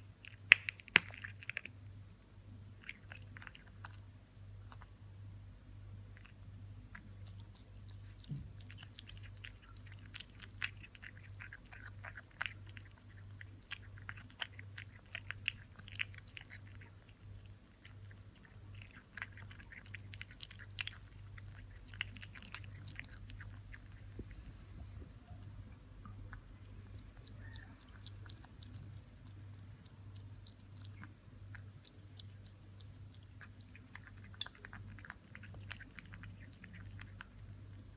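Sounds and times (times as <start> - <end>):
kitten chewing meat: 0.0 - 1.8, 2.6 - 5.2, 5.9 - 37.9.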